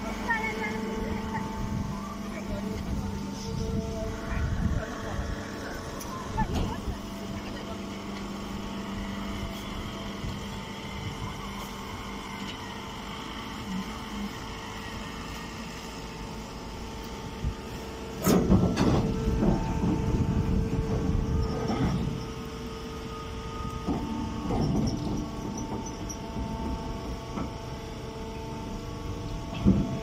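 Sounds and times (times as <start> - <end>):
heavy machinery humming: 0.0 - 30.0.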